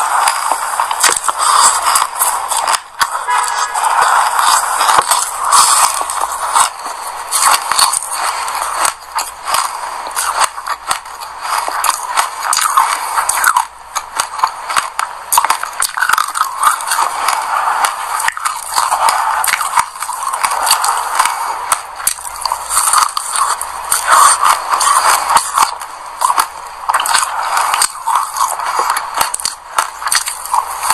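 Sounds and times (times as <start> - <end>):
crunchy chewing of seeds: 0.0 - 30.9.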